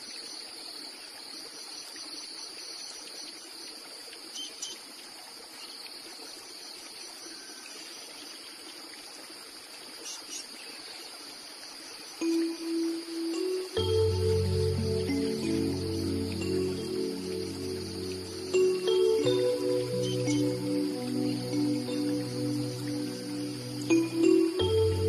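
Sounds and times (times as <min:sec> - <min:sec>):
crickets chirping: 0:00.0 - 0:25.0
flowing stream: 0:00.0 - 0:25.0.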